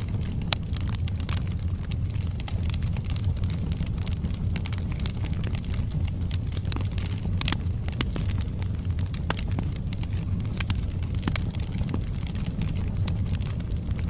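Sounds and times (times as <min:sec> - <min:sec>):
burning wood crackling and popping: 0:00.0 - 0:14.0
low rumble of flames: 0:00.0 - 0:14.0.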